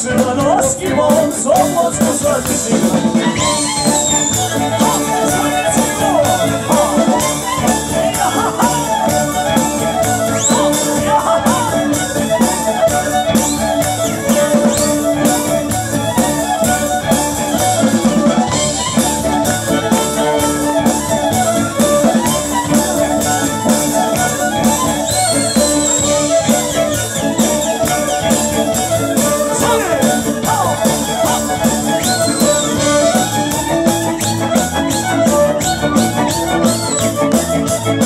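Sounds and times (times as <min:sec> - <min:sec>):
live folk band playing: 0:00.0 - 0:38.0.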